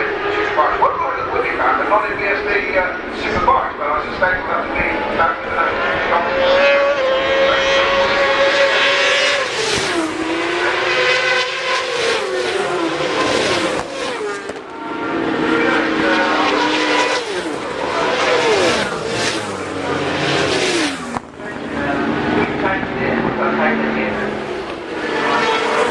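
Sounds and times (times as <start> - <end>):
racing motorcycle engines: 0.0 - 25.9.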